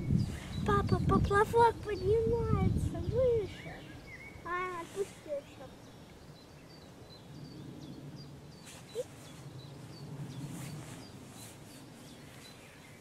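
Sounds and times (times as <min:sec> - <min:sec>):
low outdoor background noise: 0:00.0 - 0:13.0
small bird chirping: 0:00.0 - 0:13.0.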